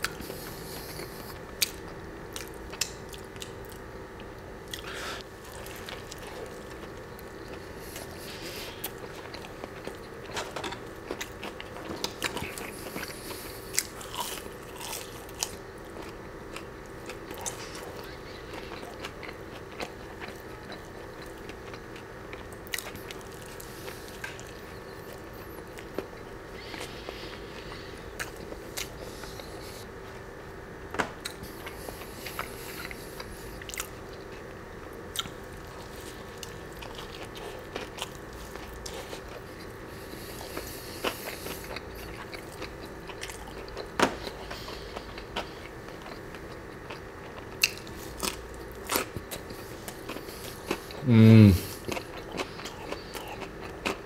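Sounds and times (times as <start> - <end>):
crunchy chewing: 0.0 - 29.9, 31.2 - 54.0
faint steady hum: 0.0 - 54.0.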